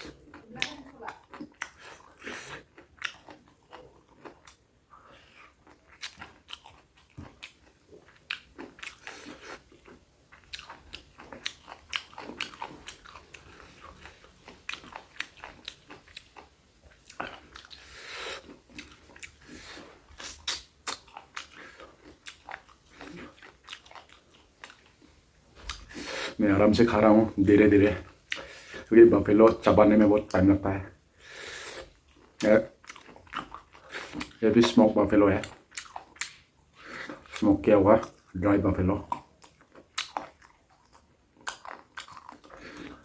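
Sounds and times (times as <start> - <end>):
crunchy chewing: 0.0 - 43.0.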